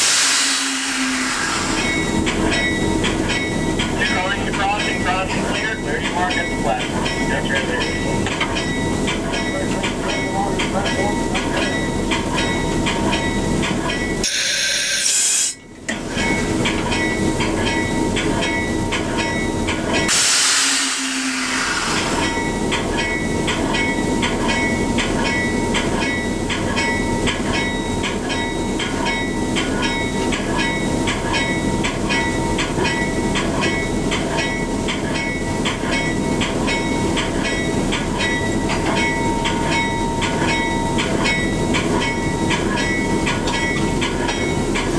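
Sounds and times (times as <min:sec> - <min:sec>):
train rumbling: 0:00.0 - 0:44.9.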